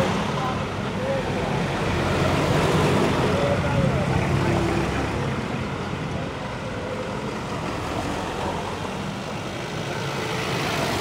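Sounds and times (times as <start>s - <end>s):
cars driving past: 0.0s - 11.0s.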